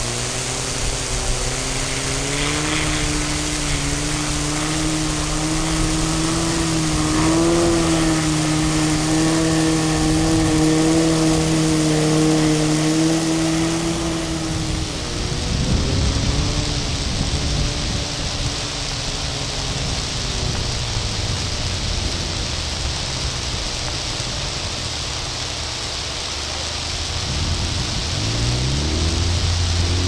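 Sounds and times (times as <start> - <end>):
distant engine running: 0.0 - 30.0
rushing hiss: 0.0 - 30.0.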